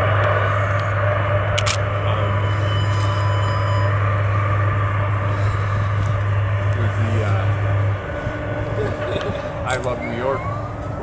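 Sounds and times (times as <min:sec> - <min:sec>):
jet engines rumbling with whine: 0:00.0 - 0:11.0.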